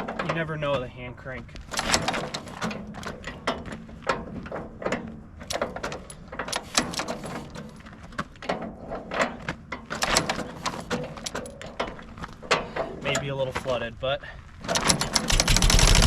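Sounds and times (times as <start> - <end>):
engine crank clicks and knocks: 0.0 - 13.8, 14.5 - 16.0.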